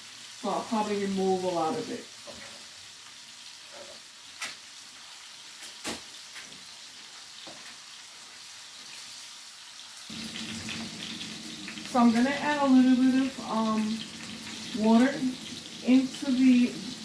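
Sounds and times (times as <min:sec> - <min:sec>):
chicken sizzling in a frying pan: 0:00.0 - 0:17.0.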